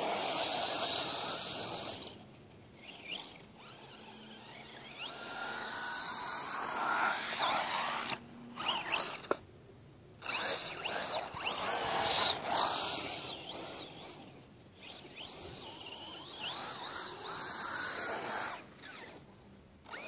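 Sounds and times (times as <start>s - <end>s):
electric motor whining: 0.0s - 9.4s, 10.2s - 20.0s.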